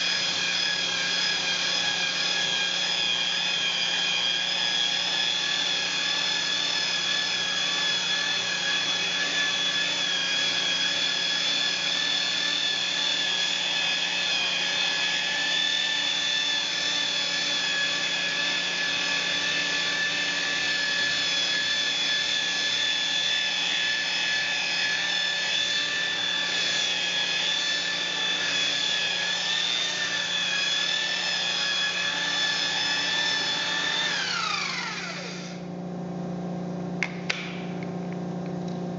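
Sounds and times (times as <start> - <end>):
electric polisher motor whine: 0.0 - 35.7.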